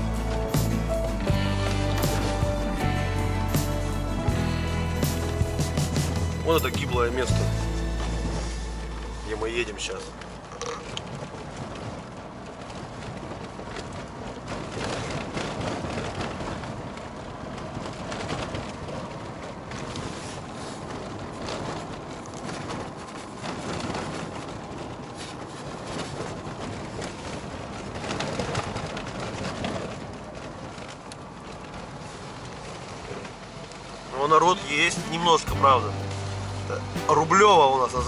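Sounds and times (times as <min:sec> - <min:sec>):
car engine and tyres on snow: 0:00.0 - 0:38.0.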